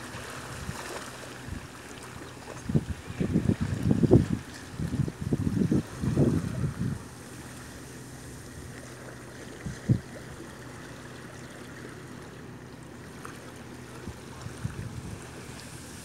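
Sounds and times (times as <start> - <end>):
small waves lapping on pebbles: 0.0 - 16.0.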